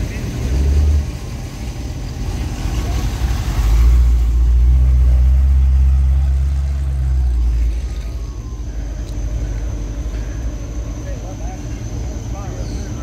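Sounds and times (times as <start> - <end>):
car engine rumbling past: 0.0 - 13.0.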